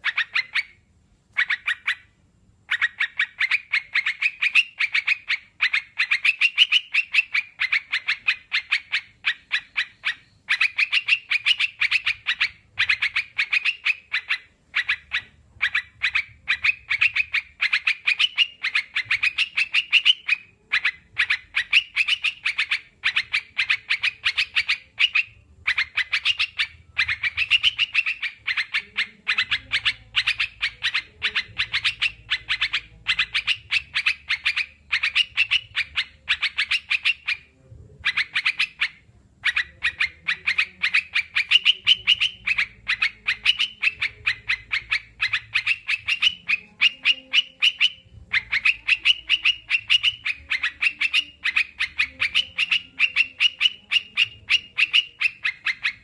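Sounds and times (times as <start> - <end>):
bird chattering calls: 1.4 - 2.1, 2.7 - 56.0.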